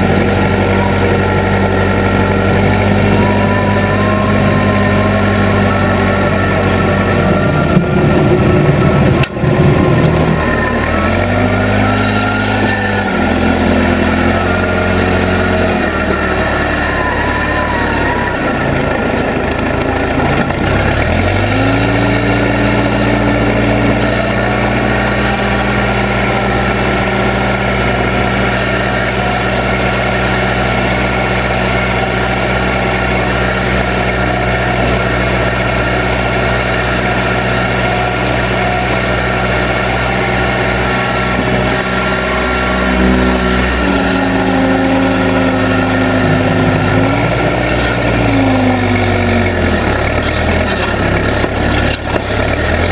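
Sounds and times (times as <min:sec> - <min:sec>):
backhoe engine revving: 0:00.0 - 0:52.9.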